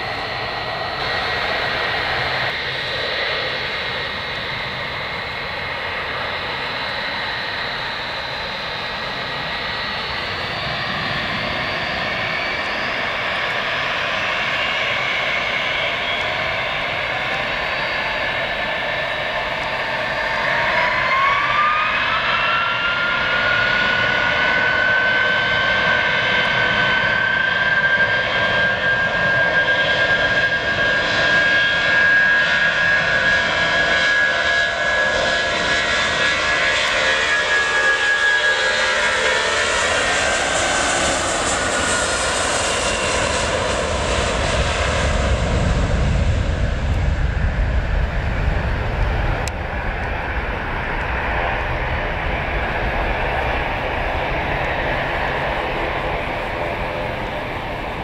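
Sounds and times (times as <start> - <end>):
jet engine whine: 0.0 - 58.0.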